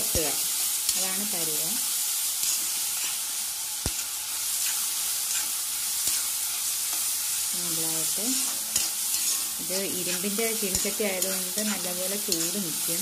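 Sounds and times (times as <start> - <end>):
onions sizzling in oil: 0.0 - 13.0
spatula scraping a pan: 2.3 - 13.0.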